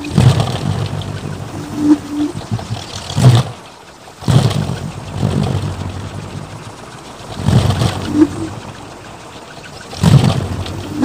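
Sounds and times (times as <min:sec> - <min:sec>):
wooden wind propeller droning: 0:00.0 - 0:11.0.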